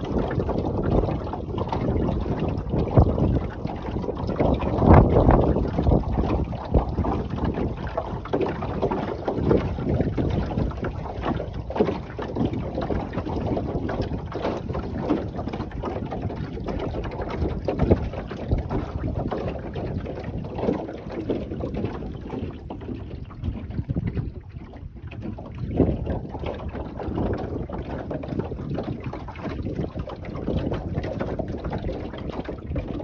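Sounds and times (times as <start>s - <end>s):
gusty wind on microphone: 0.0s - 33.0s
water washing along hull: 0.0s - 33.0s.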